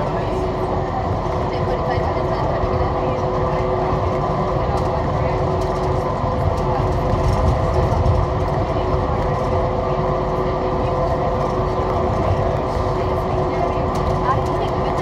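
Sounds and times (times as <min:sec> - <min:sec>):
people-mover car rumble: 0:00.0 - 0:15.0.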